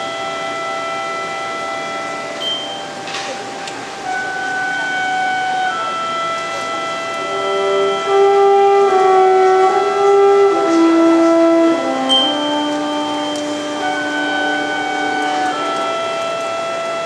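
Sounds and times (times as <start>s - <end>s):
wind band playing chords: 0.0s - 17.0s.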